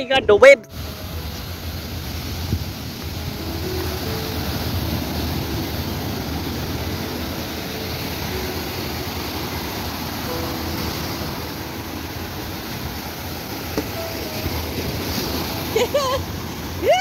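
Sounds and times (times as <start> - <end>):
waves breaking on a beach: 0.4 - 17.0.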